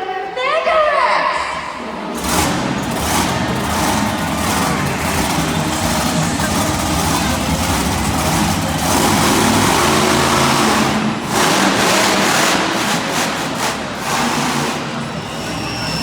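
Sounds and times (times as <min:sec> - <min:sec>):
monster truck engine revving: 0:01.8 - 0:16.0.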